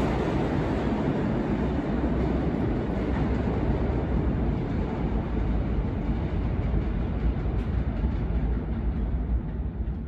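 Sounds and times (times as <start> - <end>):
subway train rumbling in tunnel: 0.0 - 10.0.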